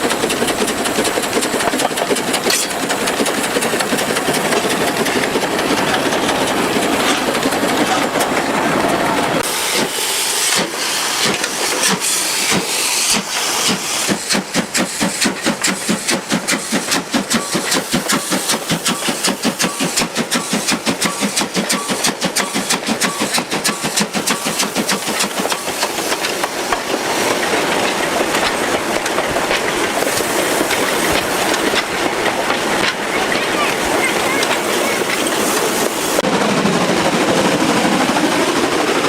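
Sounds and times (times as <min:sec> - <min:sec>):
steam engine chuffing: 0:00.0 - 0:39.0
steam engine hissing: 0:00.0 - 0:39.0.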